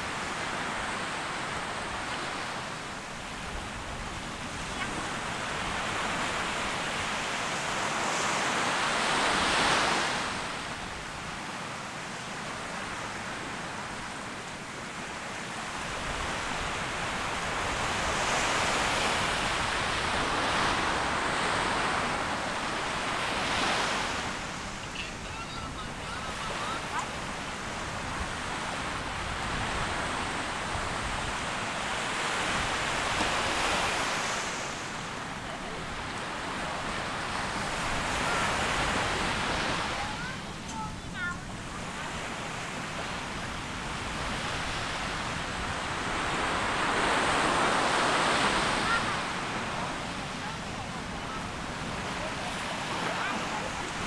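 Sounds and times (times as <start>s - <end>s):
surf breaking on sandy shore: 0.0s - 54.0s.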